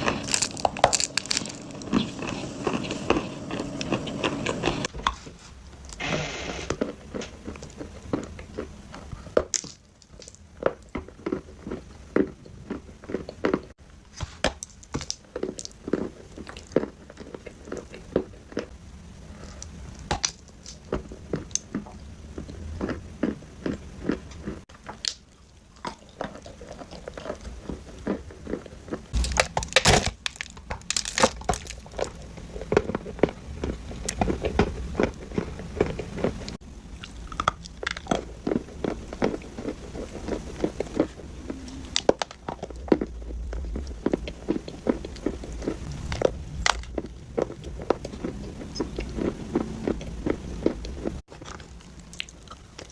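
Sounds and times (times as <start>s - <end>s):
chewing dry clay crunching: 0.0s - 6.0s, 6.6s - 52.9s.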